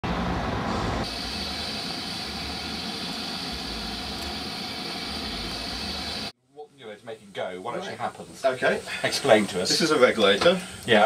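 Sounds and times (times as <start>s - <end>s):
steam hissing: 0.1s - 6.4s, 7.8s - 11.0s.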